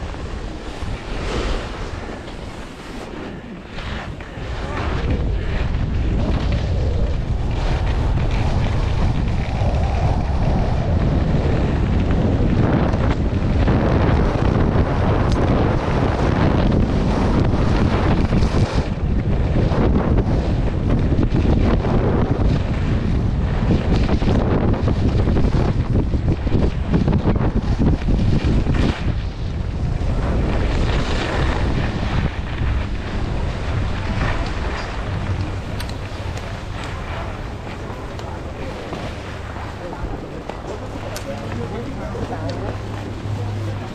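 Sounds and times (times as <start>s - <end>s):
skis scraping on snow: 0.0s - 43.9s
wind buffeting microphone: 0.0s - 43.9s.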